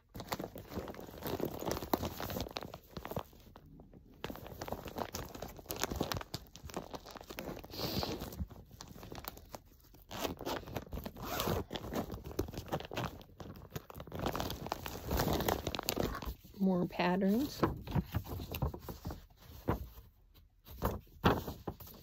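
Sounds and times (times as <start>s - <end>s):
plastic bag crinkling: 0.0s - 19.2s.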